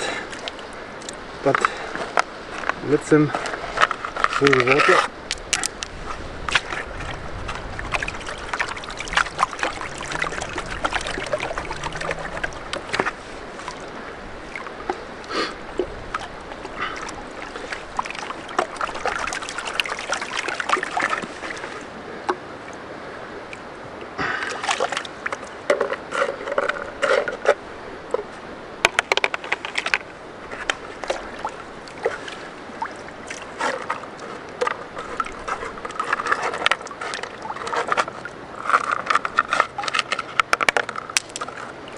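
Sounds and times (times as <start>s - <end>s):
water sloshing and splashing: 0.0s - 41.9s.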